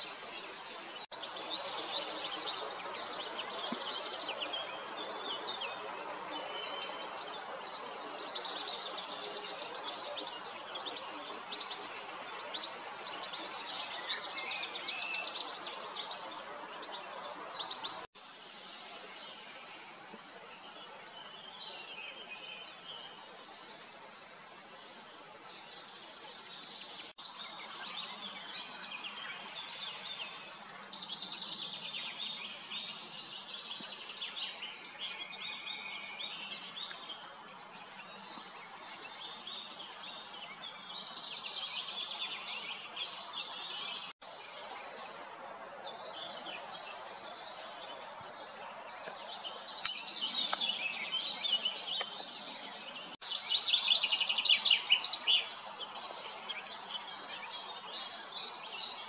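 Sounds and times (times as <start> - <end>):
songbirds singing and calling: 0.0 - 59.0.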